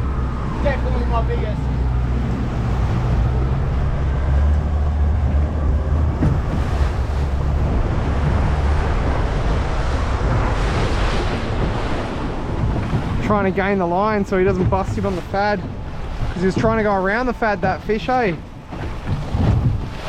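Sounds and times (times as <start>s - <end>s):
low steady rumble: 0.0s - 20.0s
sea water washing around boat: 0.0s - 20.0s
wind buffeting microphone: 0.0s - 20.0s.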